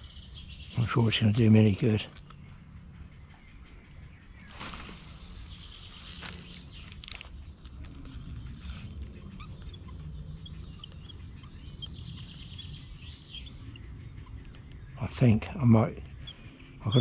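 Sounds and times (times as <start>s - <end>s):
bird chirps: 0.0s - 17.0s
steady low rumble: 0.0s - 17.0s.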